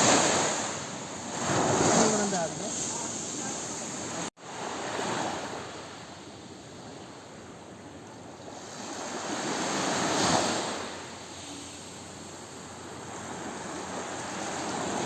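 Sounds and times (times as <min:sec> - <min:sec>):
ocean wave breaking: 0:00.0 - 0:06.2, 0:08.5 - 0:15.0.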